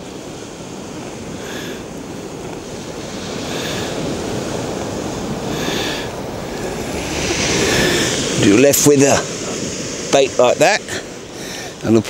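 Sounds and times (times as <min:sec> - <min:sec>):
wind on microphone: 0:00.0 - 0:11.8
surf on shingle beach: 0:00.0 - 0:12.0.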